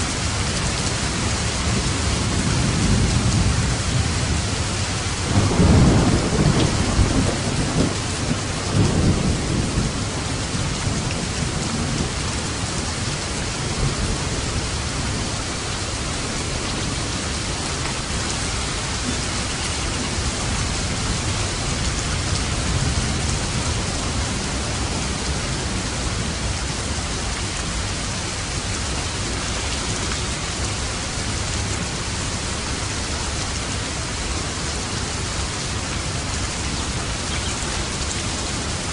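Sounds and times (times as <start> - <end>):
heavy rain on a roof: 0.0 - 38.9
low thunder rumble: 0.2 - 34.6.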